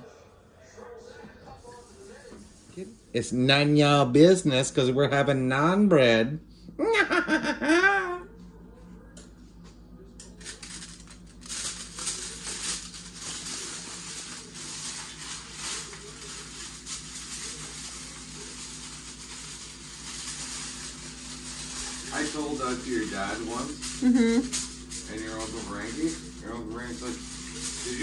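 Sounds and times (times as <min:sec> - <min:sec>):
faint appliance hum: 0:00.0 - 0:28.0.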